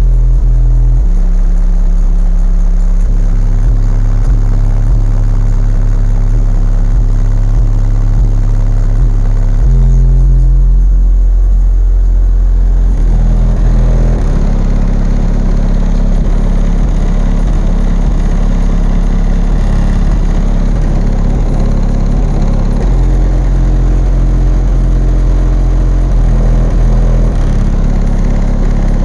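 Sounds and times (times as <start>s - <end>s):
loud bass-heavy music: 0.0s - 29.0s.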